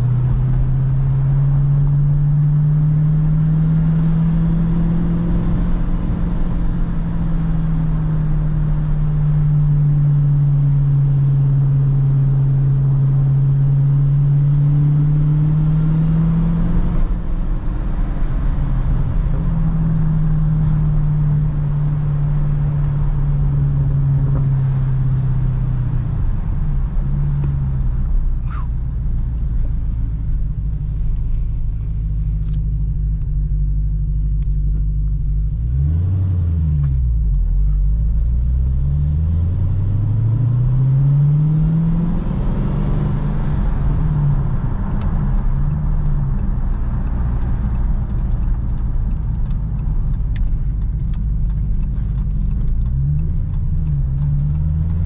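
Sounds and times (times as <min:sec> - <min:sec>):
car engine revving from inside cabin: 0:00.0 - 0:55.0.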